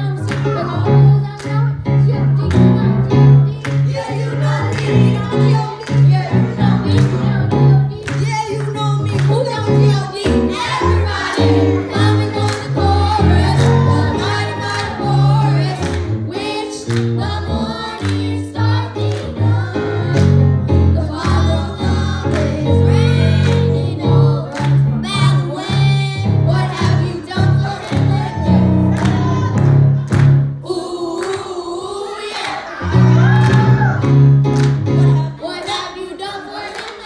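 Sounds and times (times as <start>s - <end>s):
gospel choir singing: 0.0s - 37.0s.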